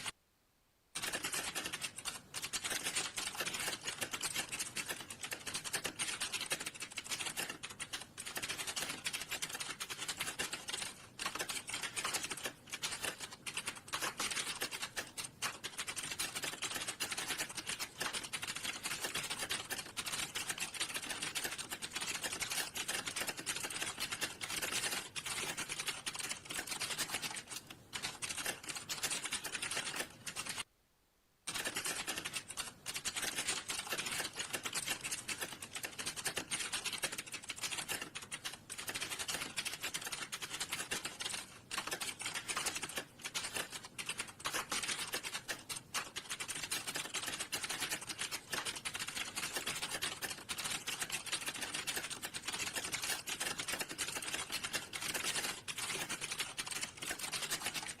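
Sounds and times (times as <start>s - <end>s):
fast typing on computer keyboard: 1.0s - 30.7s, 31.4s - 58.0s.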